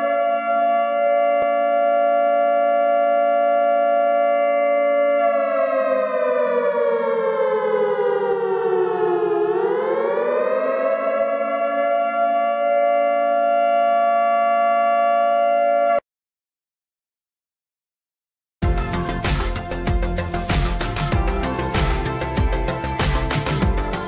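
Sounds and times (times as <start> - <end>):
air-raid siren wailing: 0.0 - 16.0, 18.6 - 24.0.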